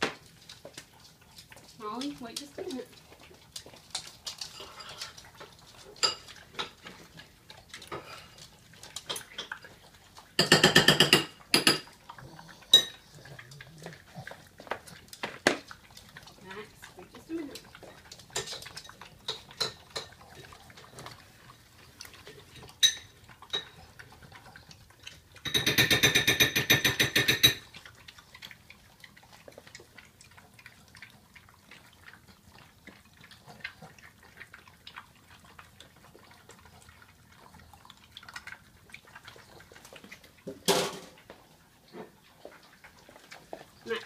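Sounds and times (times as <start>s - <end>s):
dogs licking food from bowls: 0.0s - 44.0s.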